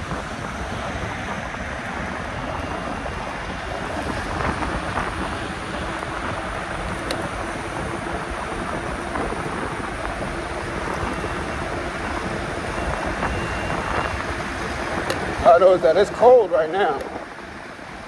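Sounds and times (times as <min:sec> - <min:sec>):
bike road noise: 0:00.0 - 0:18.0
wind buffeting microphone: 0:00.0 - 0:18.0.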